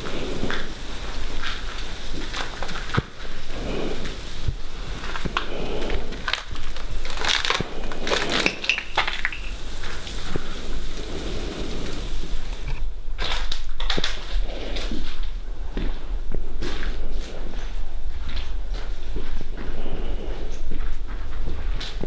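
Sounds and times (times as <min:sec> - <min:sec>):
footsteps crunching over debris: 0:00.0 - 0:10.9, 0:12.7 - 0:22.0.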